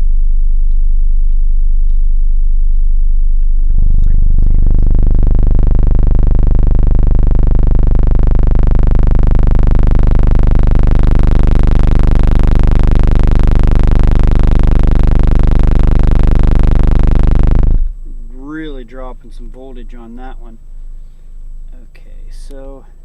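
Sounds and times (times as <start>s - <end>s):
car subwoofers playing low bass tone: 0.0s - 23.0s.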